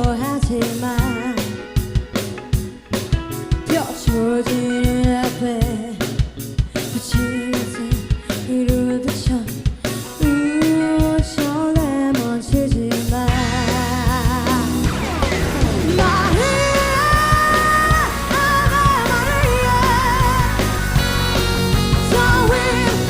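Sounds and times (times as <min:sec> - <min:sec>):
woman singing: 0:00.0 - 0:01.8, 0:03.6 - 0:14.9, 0:15.8 - 0:21.0, 0:21.8 - 0:23.0
live band with drums and guitar: 0:00.0 - 0:23.0.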